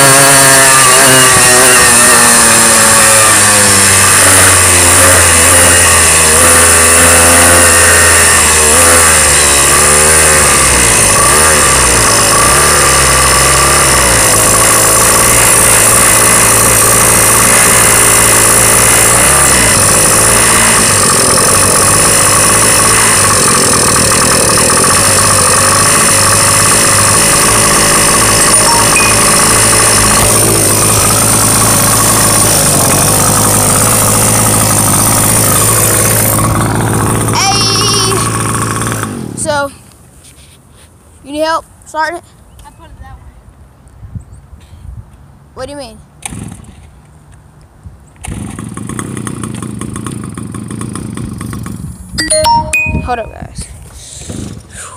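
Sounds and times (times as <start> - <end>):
motorcycle engine revving: 0.0 - 39.7, 48.2 - 53.0.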